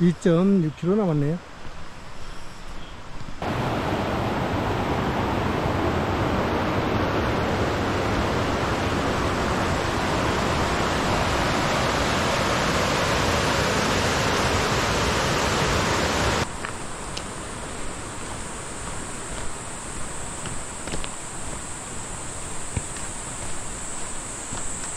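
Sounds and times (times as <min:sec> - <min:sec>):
forest background: 0:00.0 - 0:24.9
stream rushing over rocks: 0:03.4 - 0:24.9.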